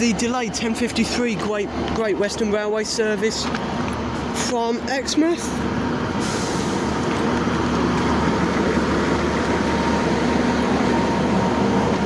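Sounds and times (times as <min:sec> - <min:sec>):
diesel train engines droning: 0:00.0 - 0:12.0.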